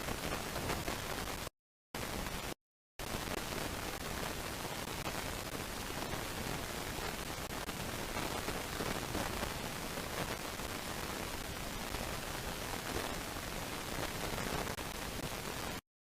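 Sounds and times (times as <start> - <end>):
steady audio feed hiss: 0.0 - 15.8.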